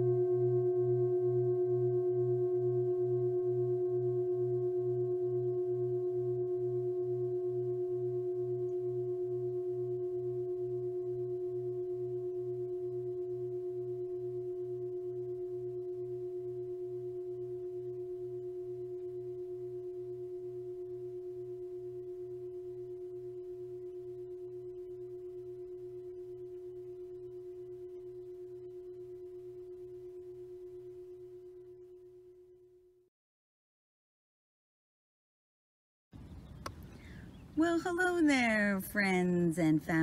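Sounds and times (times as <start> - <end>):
metal singing bowl ringing: 0.0 - 32.4.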